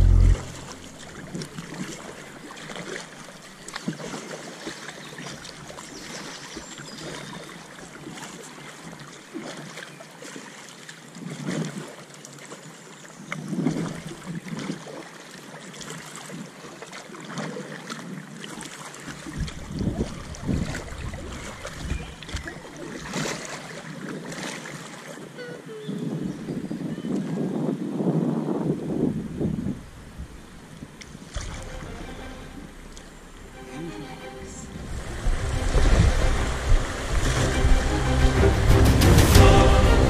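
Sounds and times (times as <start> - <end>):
paddle splashing in water: 0.0 - 26.0, 30.7 - 40.0
water lapping: 0.0 - 27.4, 30.1 - 40.0.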